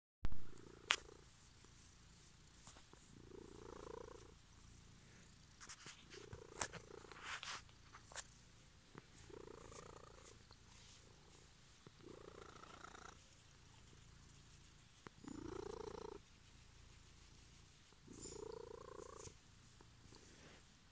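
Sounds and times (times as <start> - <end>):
cat purring: 0.3 - 20.9.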